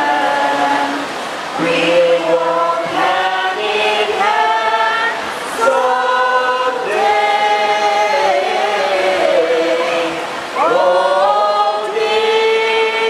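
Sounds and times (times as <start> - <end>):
crowd singing unaccompanied: 0.0 - 13.0.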